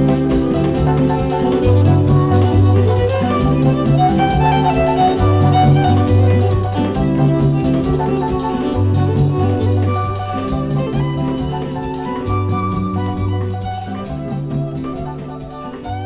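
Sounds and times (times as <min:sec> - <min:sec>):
deep held bass notes: 0:00.0 - 0:15.3
jazz band accompaniment: 0:00.0 - 0:16.0
jazz violin melody: 0:00.0 - 0:16.0.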